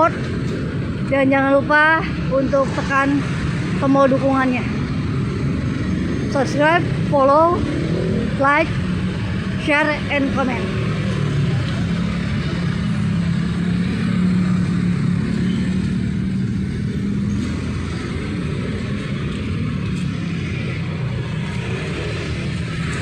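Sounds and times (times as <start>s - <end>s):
traffic noise: 0.0s - 23.0s
vehicle engines humming: 0.0s - 23.0s.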